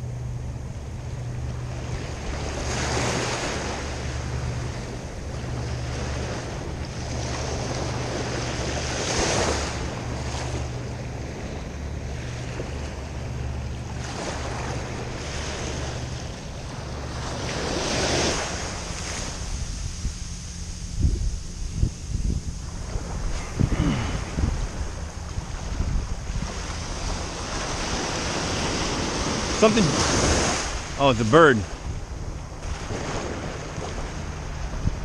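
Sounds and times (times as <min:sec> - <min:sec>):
ocean surf washing: 0:00.0 - 0:35.0
wind rumbling on microphone: 0:00.0 - 0:35.0.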